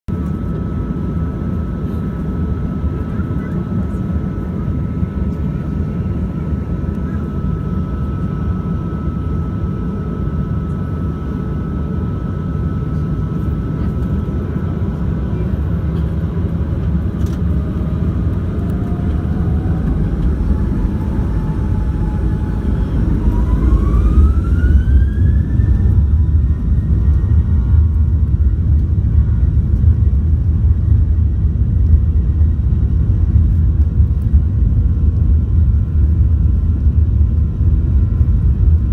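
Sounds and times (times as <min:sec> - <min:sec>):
jet engine rumble: 0:00.1 - 0:38.9
jet engine whine rising in pitch: 0:00.2 - 0:38.9.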